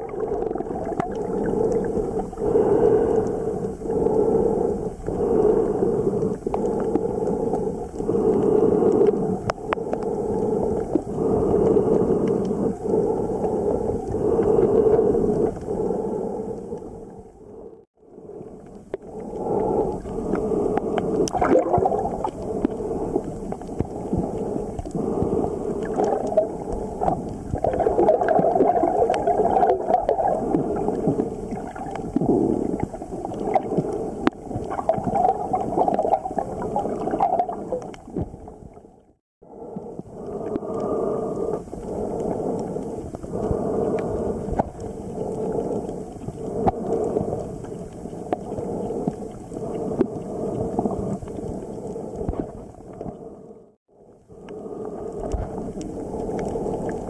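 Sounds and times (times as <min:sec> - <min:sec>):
muffled underwater gurgling and sloshing: 0:00.0 - 0:57.0.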